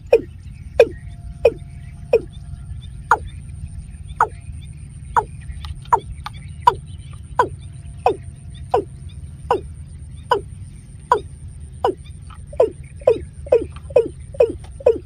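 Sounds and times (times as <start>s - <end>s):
watercock calling: 0.0s - 2.4s, 3.1s - 15.0s.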